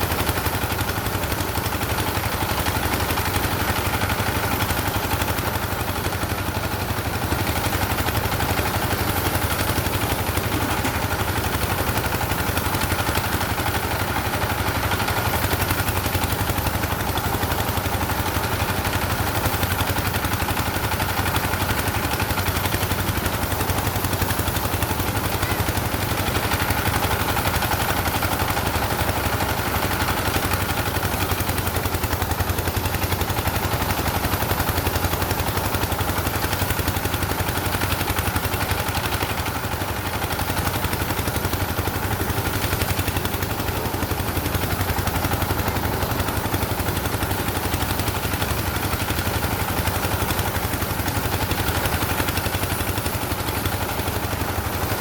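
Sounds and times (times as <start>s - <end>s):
engine chugging: 0.0s - 55.0s.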